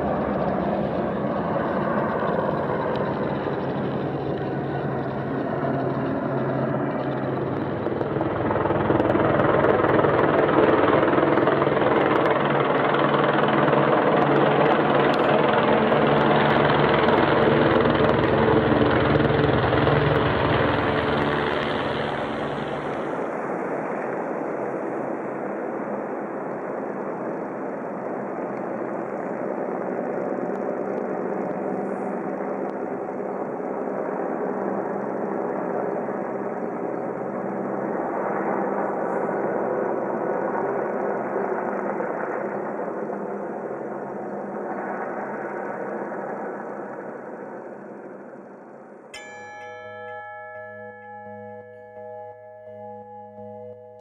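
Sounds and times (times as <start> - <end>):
helicopter flying past overhead: 0.0 - 48.8.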